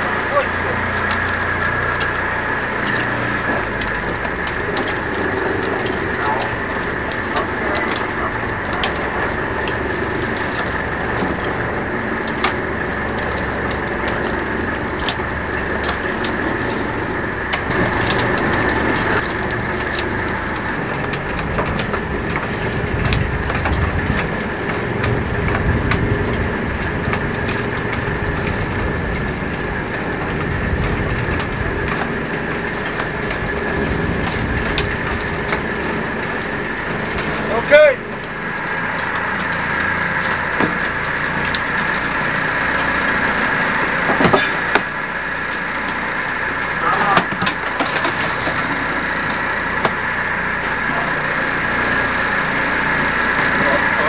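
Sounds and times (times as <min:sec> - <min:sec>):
boat engine running: 0:00.0 - 0:54.0
water noise: 0:00.0 - 0:54.0
wind: 0:00.0 - 0:54.0.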